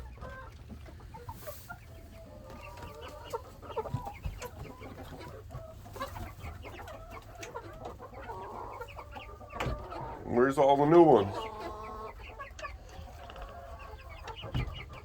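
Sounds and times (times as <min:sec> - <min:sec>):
young chickens clucking and cheeping: 0:00.0 - 0:15.0.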